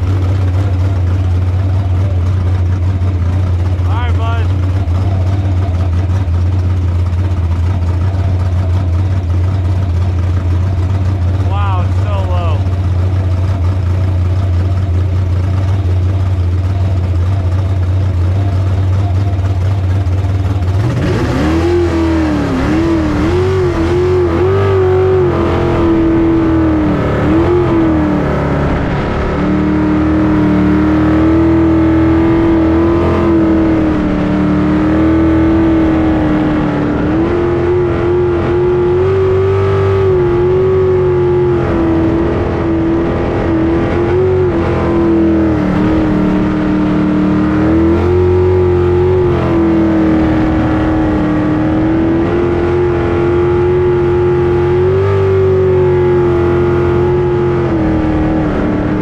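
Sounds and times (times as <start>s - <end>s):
boat engine revving: 0.0s - 59.0s.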